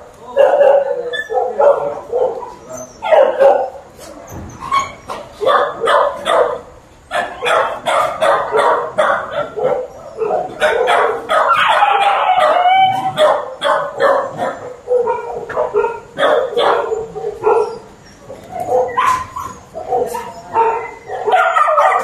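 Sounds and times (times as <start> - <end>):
many dogs barking: 0.2 - 4.0, 5.1 - 22.0
dogs yelping: 0.4 - 3.8, 4.6 - 22.0.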